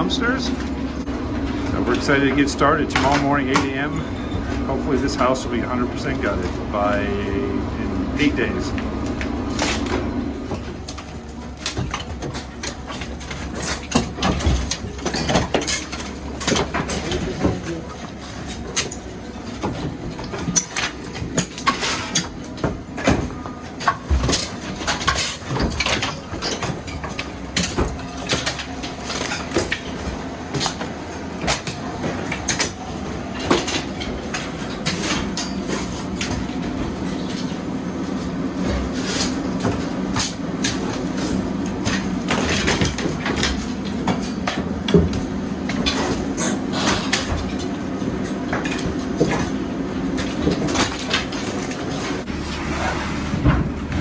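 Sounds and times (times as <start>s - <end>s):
demolition debris clattering: 0.0s - 54.0s
machine engine humming: 0.0s - 54.0s.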